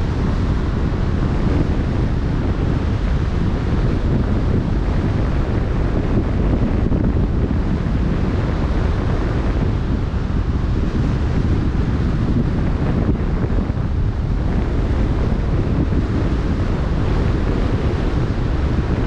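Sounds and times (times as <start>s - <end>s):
choppy sea: 0.0s - 19.0s
wind buffeting microphone: 0.0s - 19.0s.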